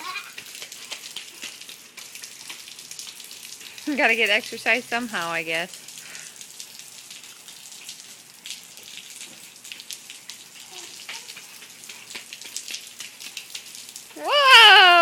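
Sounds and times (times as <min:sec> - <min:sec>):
rain pattering on surfaces: 0:00.0 - 0:15.0.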